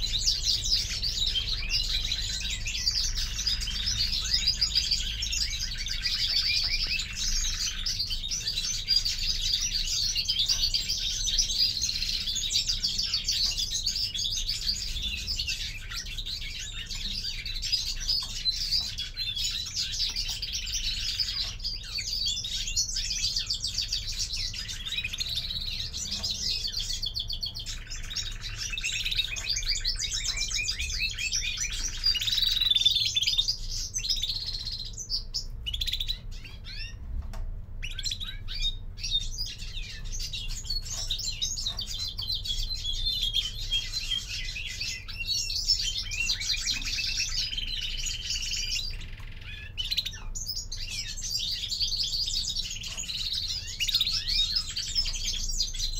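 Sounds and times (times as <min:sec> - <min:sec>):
finches twittering and chirping: 0:00.0 - 0:55.9.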